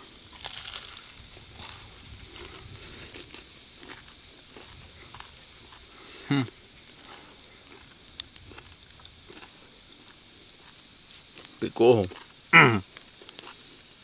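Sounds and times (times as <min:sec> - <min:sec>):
oil sizzling and popping: 0:00.0 - 0:14.0.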